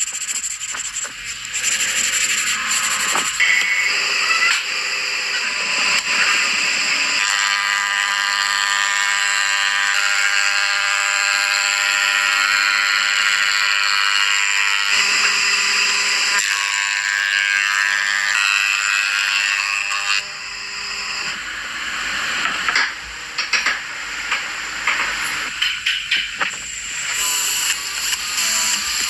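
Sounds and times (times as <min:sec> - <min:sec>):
woodworking machinery whine: 0:00.0 - 0:29.0.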